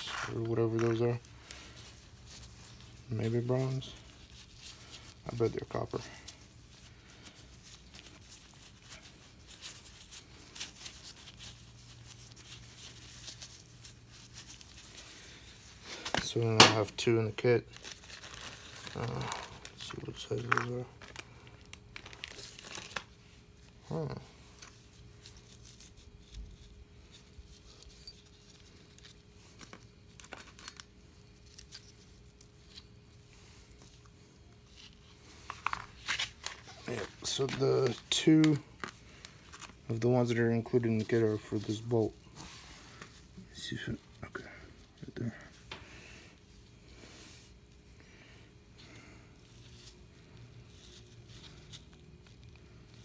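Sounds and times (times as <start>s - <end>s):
gloved hands rustling: 0.0s - 53.0s
low steady hum: 0.0s - 53.0s.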